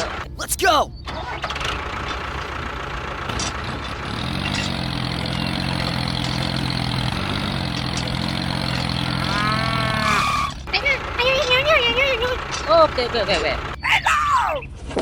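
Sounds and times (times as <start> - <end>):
noisy rattle: 0.0 - 0.3, 1.2 - 13.8
engine running: 0.0 - 0.4, 1.0 - 13.8.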